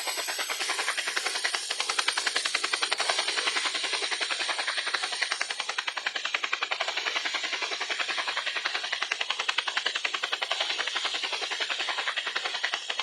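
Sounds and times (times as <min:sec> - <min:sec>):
engine and air hiss: 0:00.0 - 0:12.1
helicopter rotor beating: 0:00.0 - 0:13.0.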